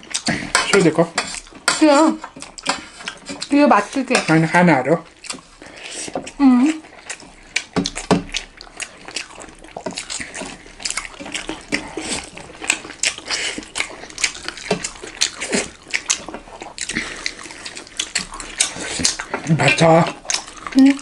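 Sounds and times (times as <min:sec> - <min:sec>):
wet chewing and lip-smacking: 0:00.0 - 0:21.0.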